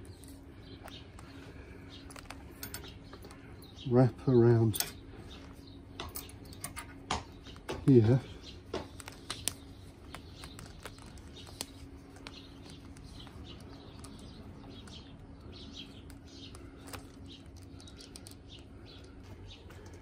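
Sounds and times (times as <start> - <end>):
low steady hum: 0.0 - 20.0
small birds chirping: 0.0 - 20.0.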